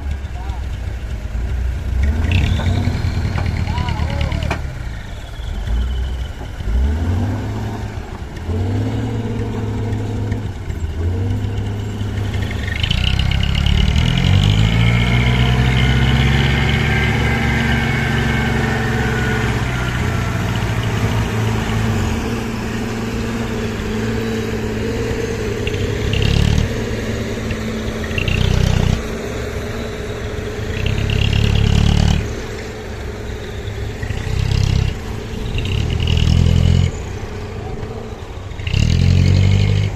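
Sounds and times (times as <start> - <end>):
diesel truck engine revving: 0.0 - 39.9.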